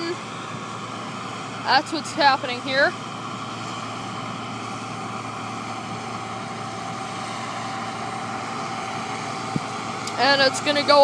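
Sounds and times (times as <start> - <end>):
harvesting machine drone and whine: 0.0 - 11.0.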